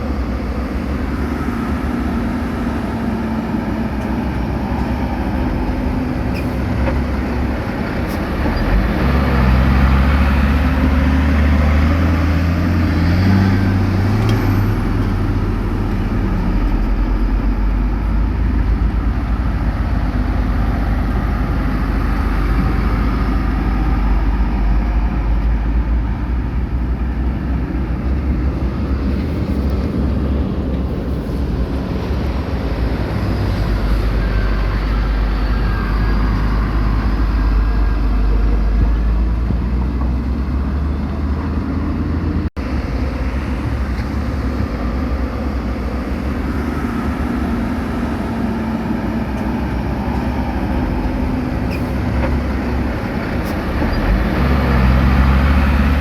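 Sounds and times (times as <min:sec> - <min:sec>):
diesel engine of construction machine: 0:00.0 - 0:56.0.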